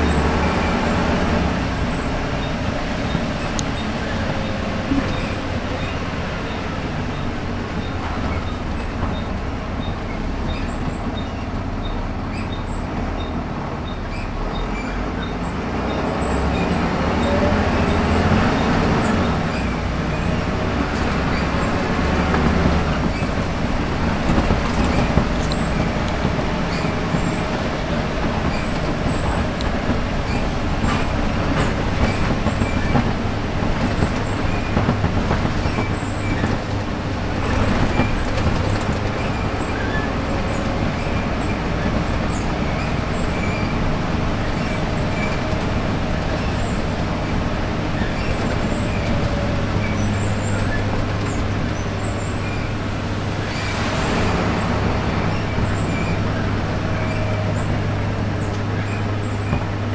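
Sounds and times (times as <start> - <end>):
bus diesel engine running: 0.0 - 59.9
road noise: 0.0 - 59.9.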